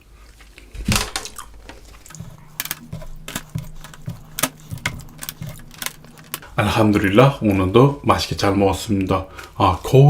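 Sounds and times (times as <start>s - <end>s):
low steady hum: 0.2s - 10.0s.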